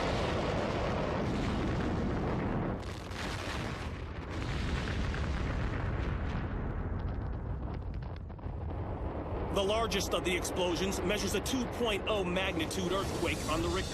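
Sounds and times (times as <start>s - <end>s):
massive explosions rumbling roar: 0.0s - 13.9s.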